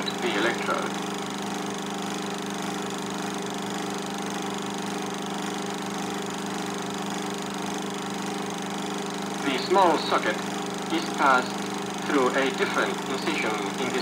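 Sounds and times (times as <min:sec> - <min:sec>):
film projector humming: 0:00.0 - 0:14.0.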